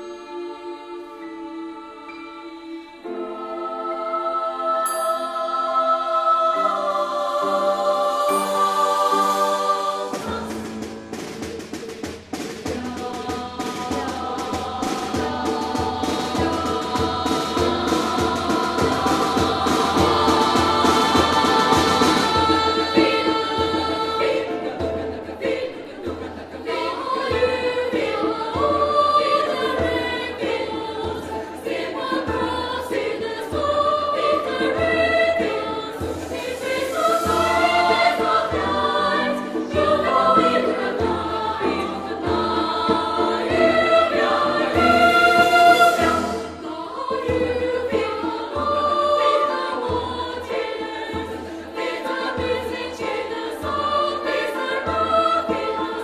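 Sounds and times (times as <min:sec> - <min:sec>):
girls' choir singing: 0:00.0 - 0:56.0
grand piano accompaniment: 0:00.0 - 0:56.0.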